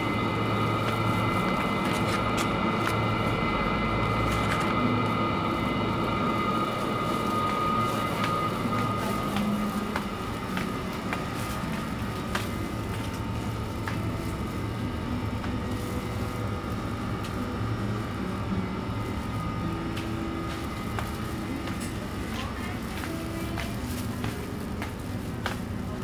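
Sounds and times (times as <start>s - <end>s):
refrigerated display cases humming: 0.0s - 26.0s.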